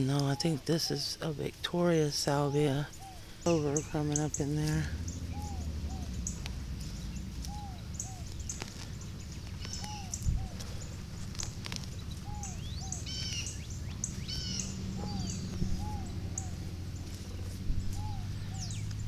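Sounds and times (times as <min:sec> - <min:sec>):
low wind rumble: 0:00.0 - 0:19.0
high bird chirps: 0:02.1 - 0:19.0
bird calling short arched notes: 0:02.2 - 0:18.9.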